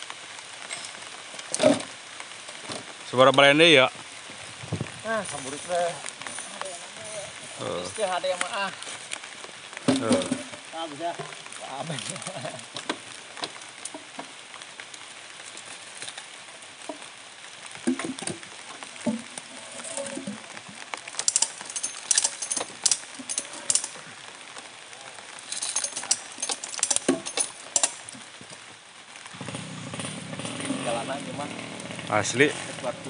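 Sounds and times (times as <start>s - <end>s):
light drizzle hissing: 0.0s - 33.0s.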